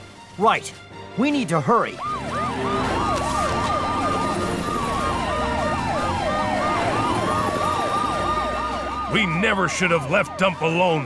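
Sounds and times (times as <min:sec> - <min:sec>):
emergency sirens wailing: 0:01.4 - 0:11.0.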